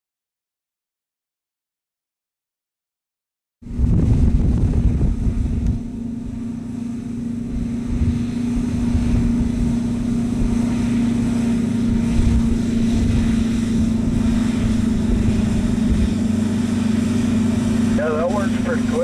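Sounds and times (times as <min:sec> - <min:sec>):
forage harvester drone: 0:03.6 - 0:19.0
wind rumbling on microphone: 0:03.6 - 0:19.0.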